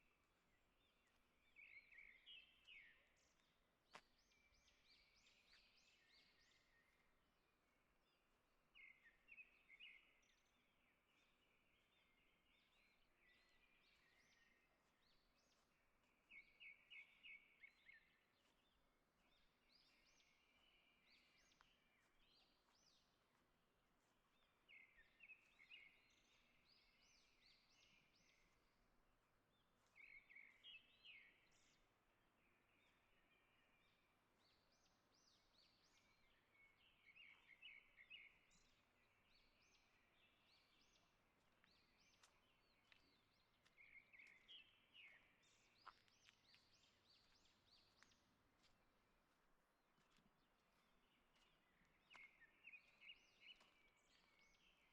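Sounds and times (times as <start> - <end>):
faint songbird song: 0.0 - 54.9.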